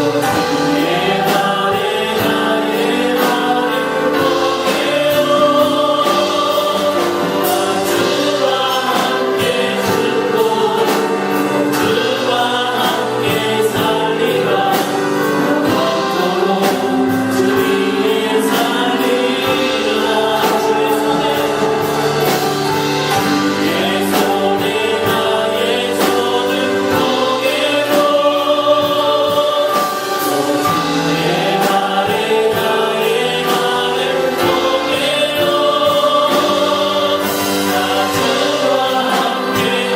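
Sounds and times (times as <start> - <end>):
choir singing gospel song: 0.0 - 39.9
instrumental backing with percussion: 0.0 - 39.9.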